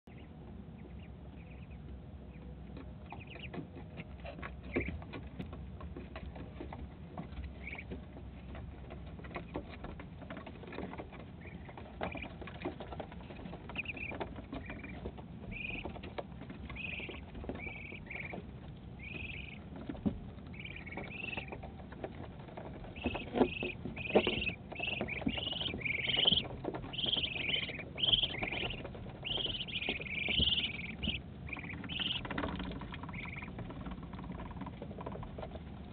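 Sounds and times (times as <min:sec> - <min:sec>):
ducklings peeping: 0:00.0 - 0:35.9.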